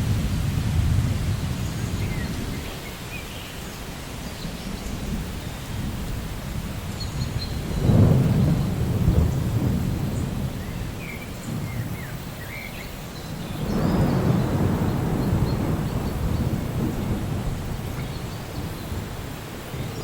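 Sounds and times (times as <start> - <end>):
thunder rumbling: 0.0 - 2.7, 4.9 - 20.0
steady rain: 0.0 - 20.0.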